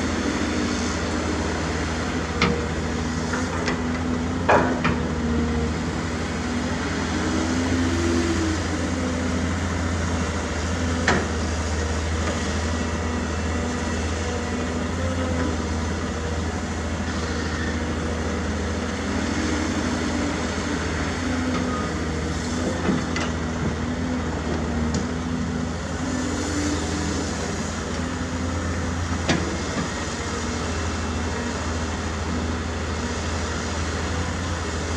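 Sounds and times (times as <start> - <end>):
heavy diesel machinery drone: 0.0 - 34.9.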